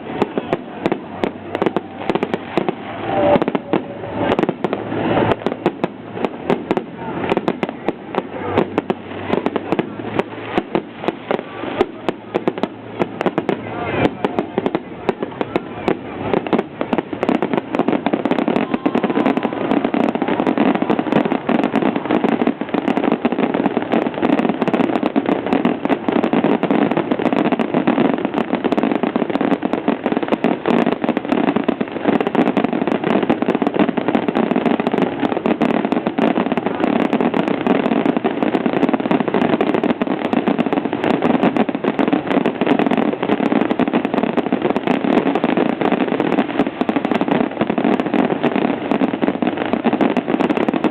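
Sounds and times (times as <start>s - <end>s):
fireworks bursting and crackling: 0.0s - 50.9s.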